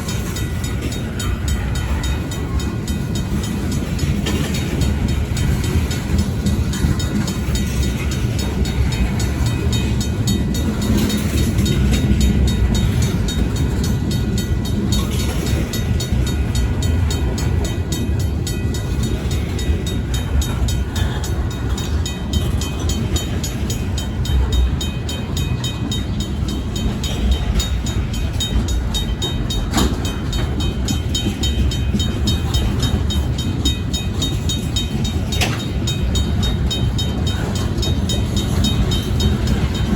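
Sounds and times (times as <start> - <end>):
crossing bell ringing rapidly: 0.0 - 39.9
freight train wheels rumbling: 0.0 - 39.9
train cars clanking: 0.0 - 39.9.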